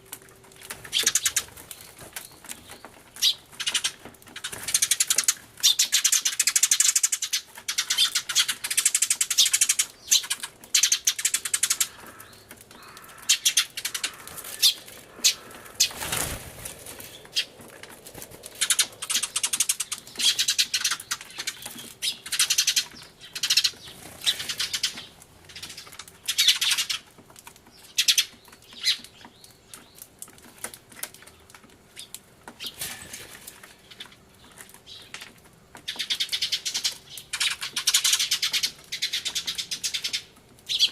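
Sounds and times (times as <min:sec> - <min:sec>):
sparrows chirping: 0:00.4 - 0:30.4, 0:31.2 - 0:40.9.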